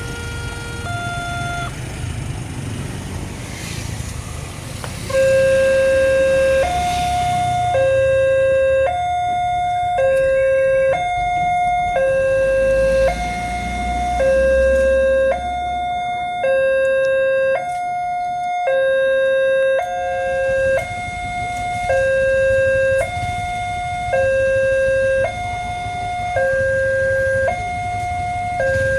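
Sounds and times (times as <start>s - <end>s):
two-tone warning siren: 0.0s - 1.8s, 5.1s - 28.9s.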